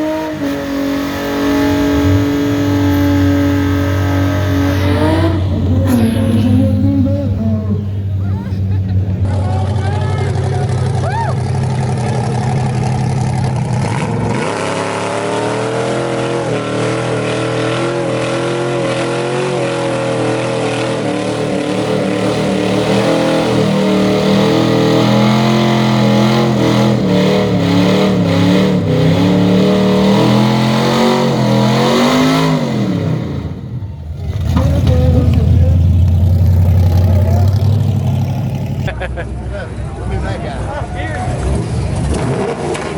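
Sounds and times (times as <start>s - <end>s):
car engine revving: 0.0s - 39.1s.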